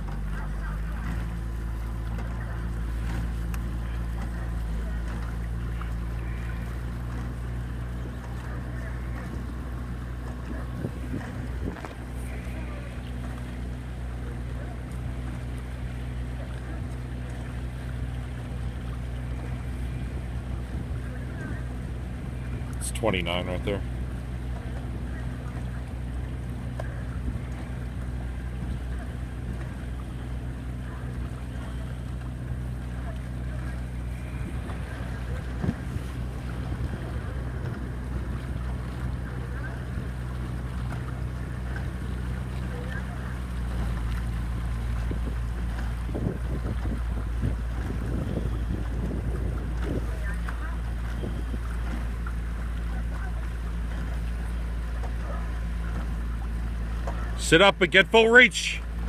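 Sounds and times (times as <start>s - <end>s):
outboard motor humming: 0.0s - 59.0s
water rushing: 0.0s - 59.0s
wind: 0.0s - 59.0s.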